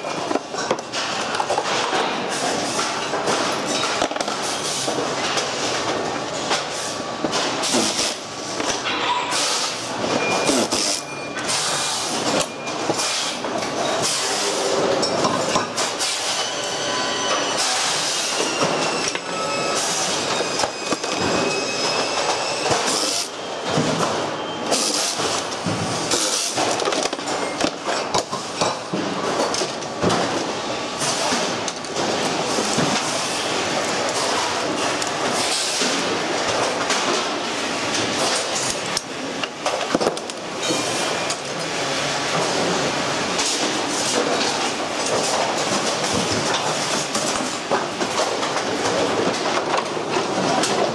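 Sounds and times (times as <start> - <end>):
workshop noise: 0.0 - 50.9.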